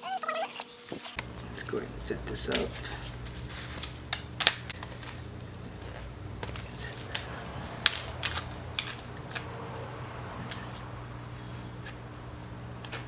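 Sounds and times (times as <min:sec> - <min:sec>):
steady low hum: 0:01.2 - 0:13.0.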